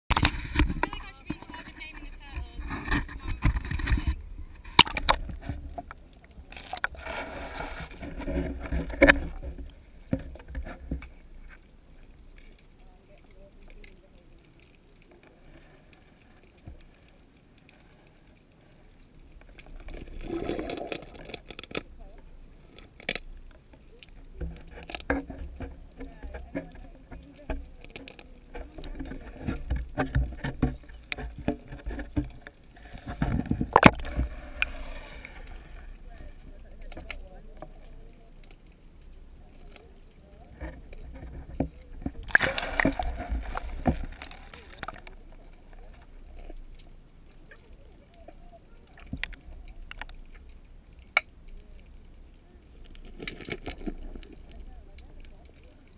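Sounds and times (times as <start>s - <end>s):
muffled underwater noise: 0.1s - 55.9s.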